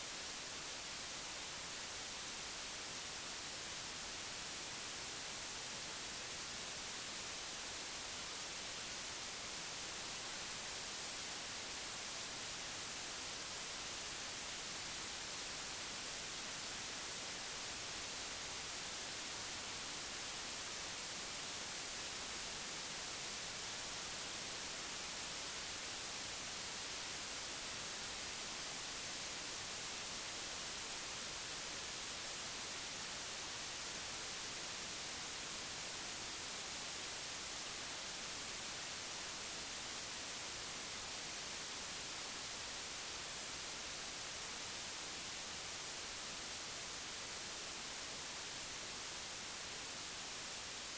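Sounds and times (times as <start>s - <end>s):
television static hiss: 0.0s - 50.9s.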